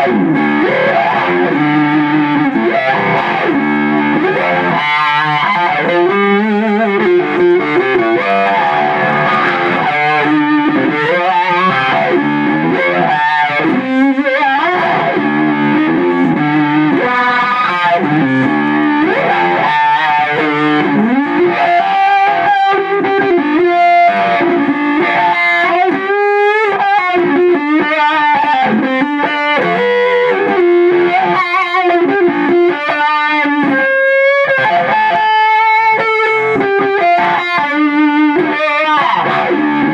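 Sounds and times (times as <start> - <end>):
electric guitar chicken-pickin: 0.0 - 39.9.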